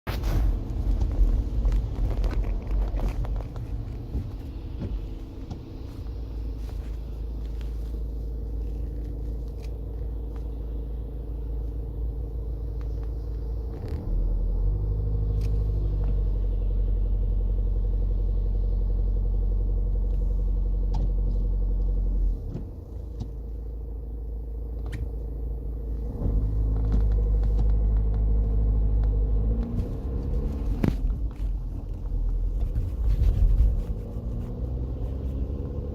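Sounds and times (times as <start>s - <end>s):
diesel engine idling and revving: 0.0s - 35.9s.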